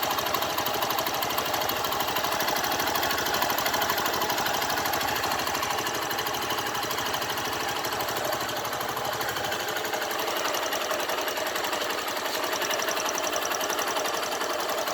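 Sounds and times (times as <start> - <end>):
motorcycle engine clattering: 0.0 - 14.9.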